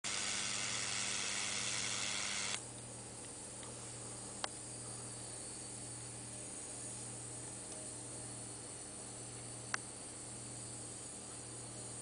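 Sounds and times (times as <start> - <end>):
low electrical hum: 0.1 - 12.0.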